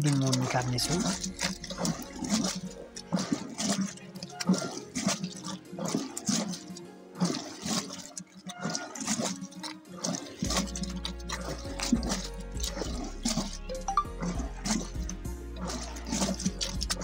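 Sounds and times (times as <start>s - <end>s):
wet sloshing of butter churning: 0.0s - 17.0s.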